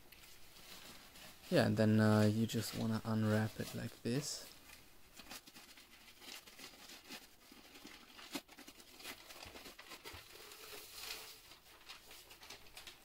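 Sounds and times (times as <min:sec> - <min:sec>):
paper crackle: 0:00.0 - 0:13.0
paper crinkling and rustling: 0:00.0 - 0:13.0.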